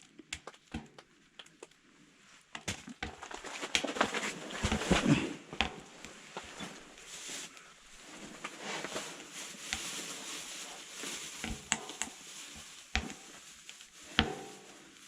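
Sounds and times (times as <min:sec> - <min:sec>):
faint rustle: 0:01.7 - 0:15.0.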